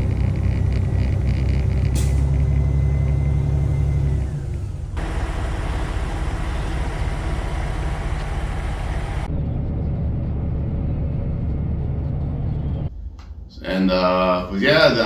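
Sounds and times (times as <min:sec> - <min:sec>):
truck engine and road rumble: 0:00.0 - 0:13.4.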